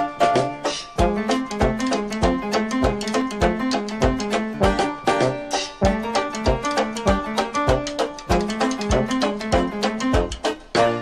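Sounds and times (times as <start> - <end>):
upbeat music with steady beat: 0.0 - 11.0.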